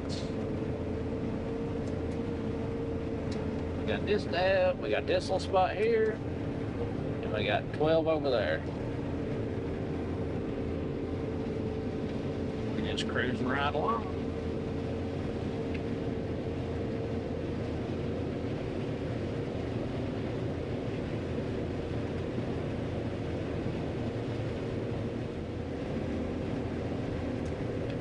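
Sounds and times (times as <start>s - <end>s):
combine engine drone: 0.0s - 28.0s.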